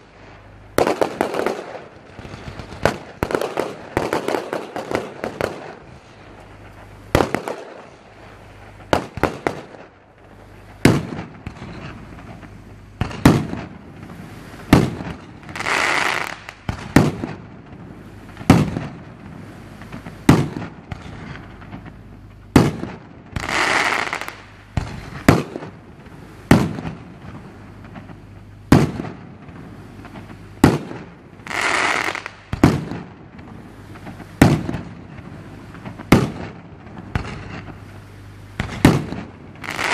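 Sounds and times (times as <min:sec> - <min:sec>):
fireworks bursting with sharp bangs: 0:00.0 - 0:39.9
fireworks hissing: 0:00.0 - 0:39.9.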